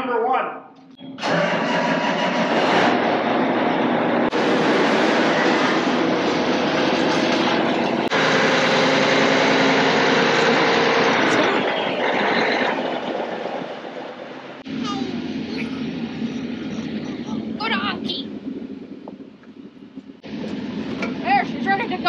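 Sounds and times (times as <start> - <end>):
tractor engine running: 0.8 - 22.0.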